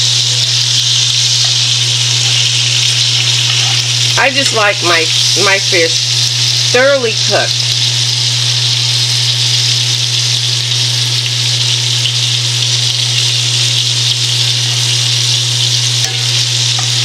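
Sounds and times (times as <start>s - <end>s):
constant low hum: 0.0s - 17.0s
fish sizzling in oil: 0.0s - 17.0s.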